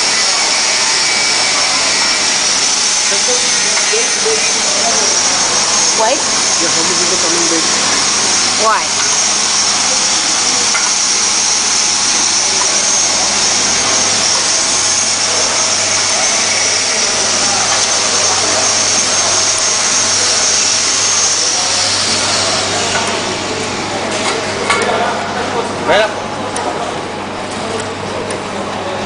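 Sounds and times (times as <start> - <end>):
shrink-wrap machine whine: 0.0 - 29.0.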